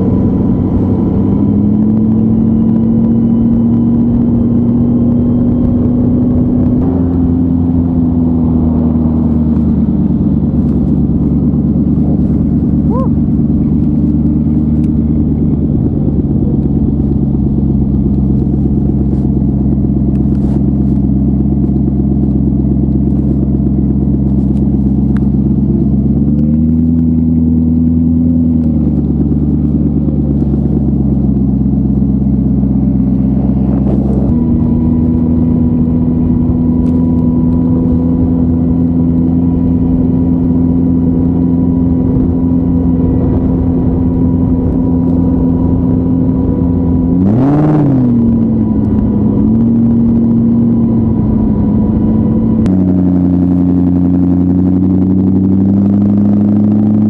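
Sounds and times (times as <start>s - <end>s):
engine rev: 0.0s - 57.0s
motorcycle engine running: 0.0s - 57.0s.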